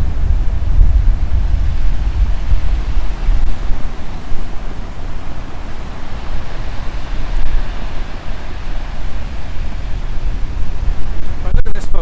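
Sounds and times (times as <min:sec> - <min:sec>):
sea surf breaking on shore: 0:00.0 - 0:12.0
wind buffeting microphone: 0:00.0 - 0:12.0.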